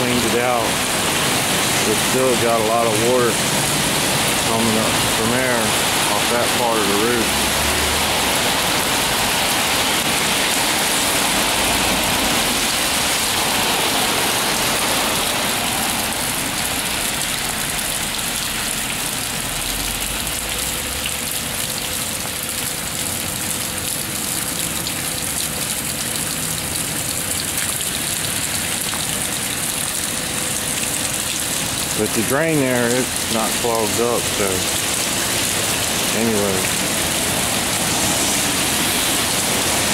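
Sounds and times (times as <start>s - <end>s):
heavy rain: 0.0s - 39.9s
rainwater splashing off a roof: 0.0s - 39.9s.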